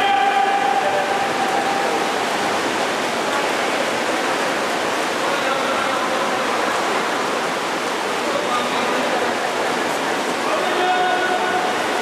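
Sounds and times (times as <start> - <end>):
swimmers splashing water: 0.0 - 12.0.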